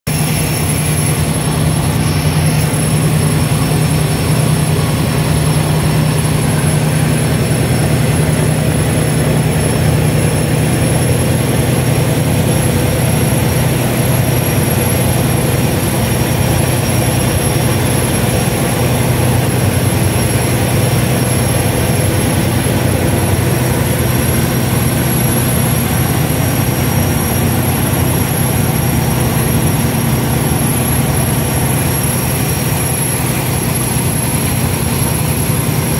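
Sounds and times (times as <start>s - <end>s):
propeller wash rushing: 0.1s - 35.9s
ship engines droning: 0.1s - 35.9s.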